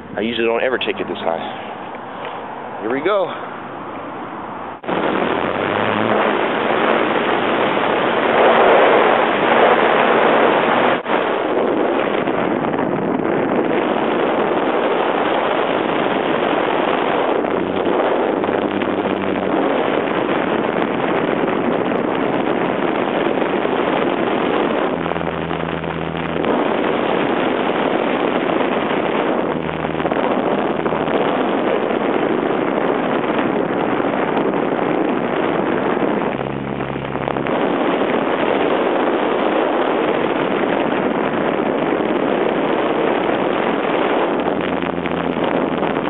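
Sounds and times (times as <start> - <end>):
low hum: 0.0 - 41.2, 41.8 - 46.0
wind rush: 0.0 - 46.0.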